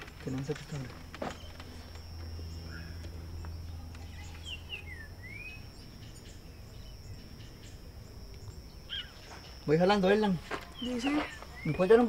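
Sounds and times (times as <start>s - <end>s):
steady low rumble: 0.0s - 11.6s
thin steady high tone: 0.4s - 12.0s.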